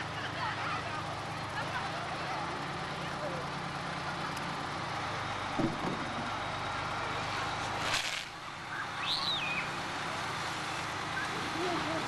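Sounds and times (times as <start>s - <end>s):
fire engine motor running: 0.0s - 12.0s.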